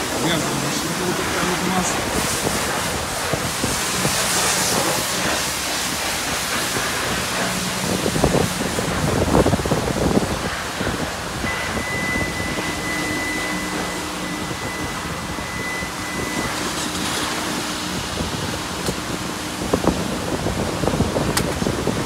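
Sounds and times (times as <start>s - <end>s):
thin high whine: 0.0s - 20.0s
car wash rushing noise: 0.0s - 22.0s.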